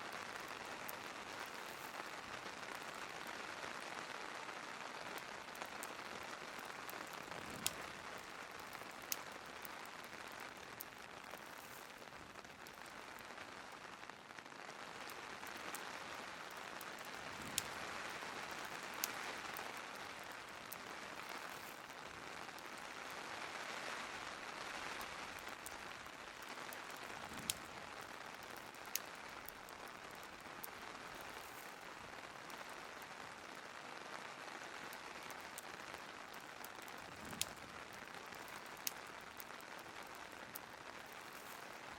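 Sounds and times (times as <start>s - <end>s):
fireplace crackling: 0.0s - 41.9s
steady rain falling: 0.0s - 41.9s
sharp pops from fire: 0.1s - 3.8s, 4.4s - 14.0s, 14.8s - 23.1s, 24.8s - 33.1s, 34.8s - 41.9s.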